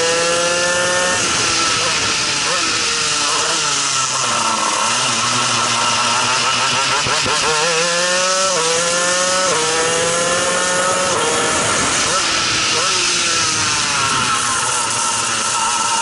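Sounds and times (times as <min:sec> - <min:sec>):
two-stroke kart engine revving: 0:00.0 - 0:16.0.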